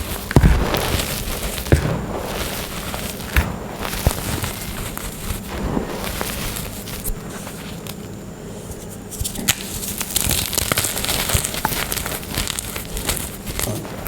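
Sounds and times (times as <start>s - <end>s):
chalk crackling and crunching: 0.0s - 14.0s.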